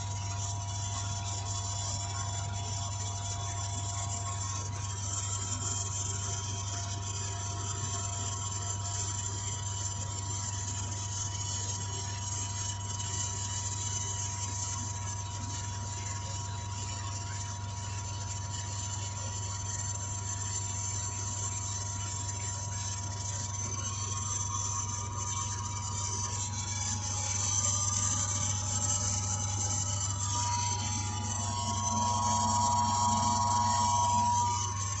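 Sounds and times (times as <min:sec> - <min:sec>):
pump motor whirring: 0:00.0 - 0:35.0.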